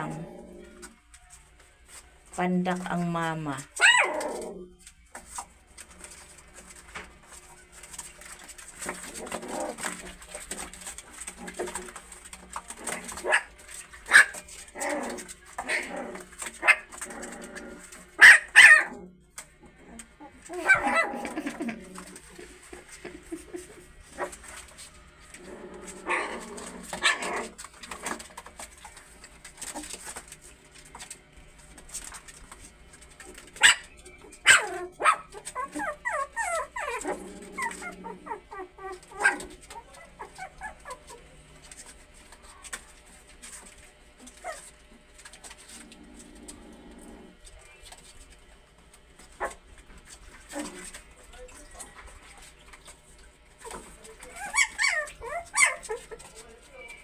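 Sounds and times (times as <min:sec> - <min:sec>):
puppies yipping and barking: 0:03.7 - 0:57.0.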